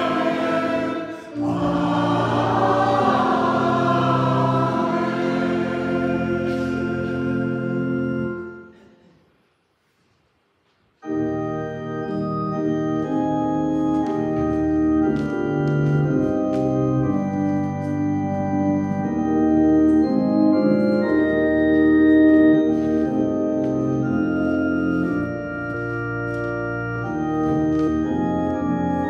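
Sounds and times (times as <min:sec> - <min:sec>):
held chord: 0:00.0 - 0:08.9, 0:11.0 - 0:29.0
organ music slow chords: 0:00.0 - 0:09.2, 0:11.0 - 0:29.0.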